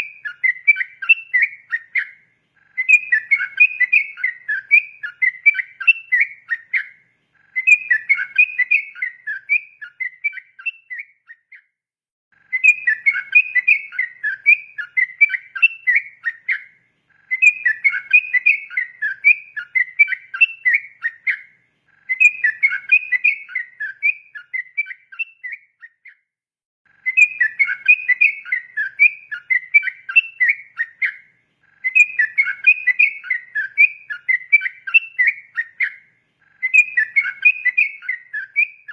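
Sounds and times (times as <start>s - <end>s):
bulbul singing bubbling whistles: 2.8s - 7.0s, 7.6s - 11.6s, 12.5s - 16.7s, 17.3s - 21.5s, 22.1s - 26.1s, 27.0s - 31.2s, 31.8s - 38.9s.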